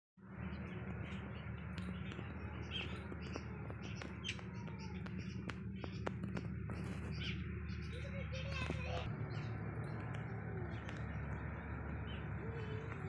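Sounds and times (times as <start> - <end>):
small birds chirping: 0.2 - 13.0
steady low hum: 0.2 - 13.0.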